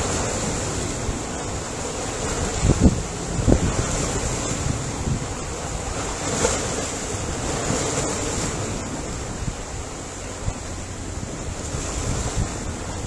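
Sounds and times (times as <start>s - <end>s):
ocean waves washing on shore: 0.0s - 13.0s
wind buffeting the microphone: 0.0s - 13.0s.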